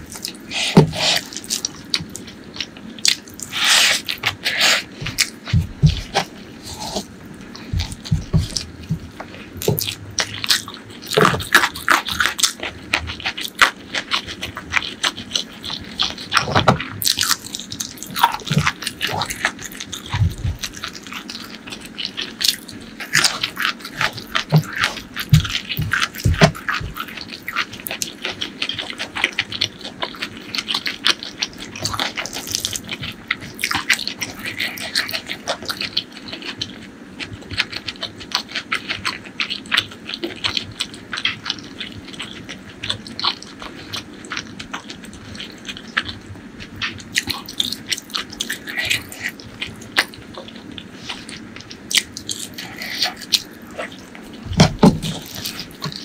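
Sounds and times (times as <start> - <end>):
chewing crispy fried food: 0.0 - 56.0.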